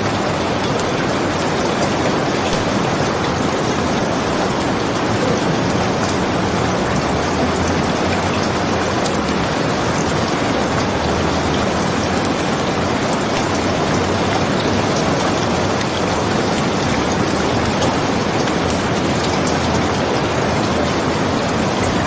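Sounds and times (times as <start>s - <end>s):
steady rain hiss: 0.0s - 22.0s
ticks of raindrops: 0.0s - 22.0s.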